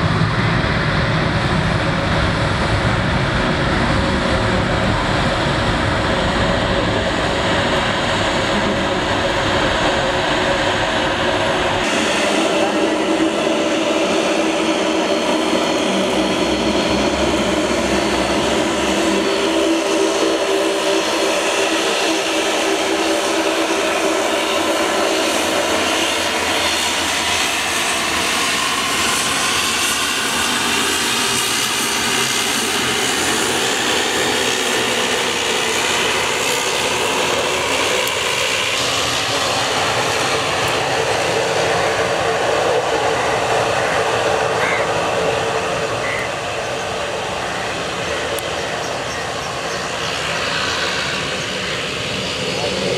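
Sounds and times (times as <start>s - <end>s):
turboprop engines running: 0.0s - 52.9s.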